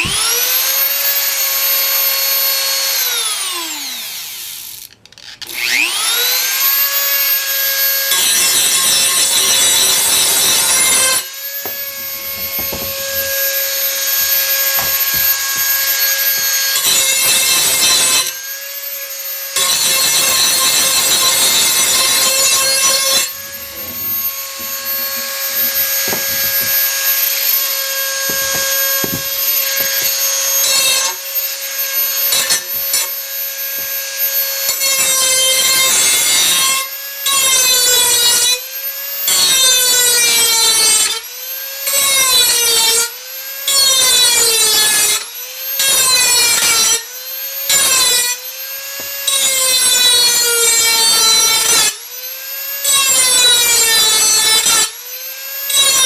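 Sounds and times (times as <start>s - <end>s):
rotary tool grinding steel: 0.0s - 56.0s.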